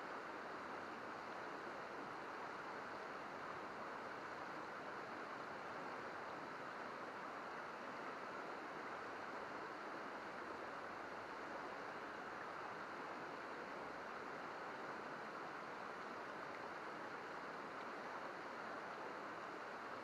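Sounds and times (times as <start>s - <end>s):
river babbling over rocks: 0.0s - 20.0s.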